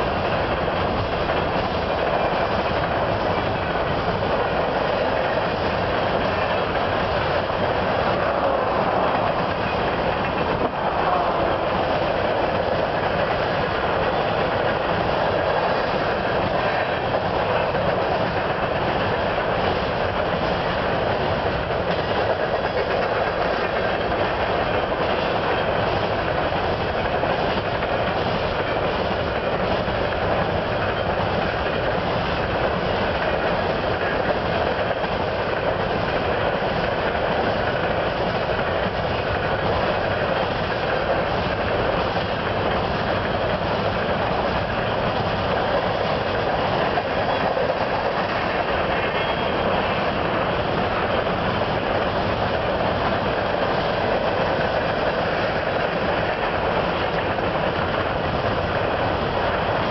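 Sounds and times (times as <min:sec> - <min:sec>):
train cars clickety-clack: 0:00.0 - 0:59.9
train wheels on rail: 0:00.0 - 0:59.9.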